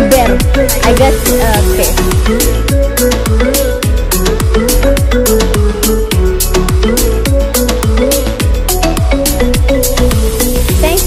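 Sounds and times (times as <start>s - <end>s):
dance music: 0.0s - 11.0s.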